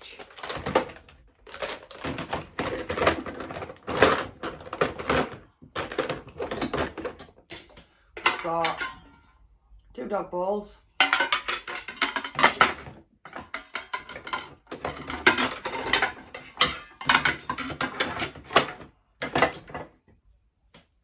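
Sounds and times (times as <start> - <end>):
kitchenware clattering: 0.1 - 9.3, 11.0 - 19.9.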